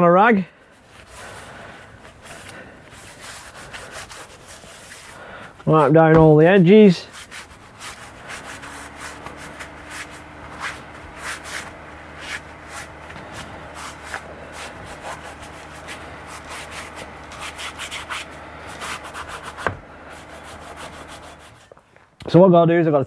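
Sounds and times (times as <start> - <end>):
cloth rag wiping metal: 0.7 - 21.7.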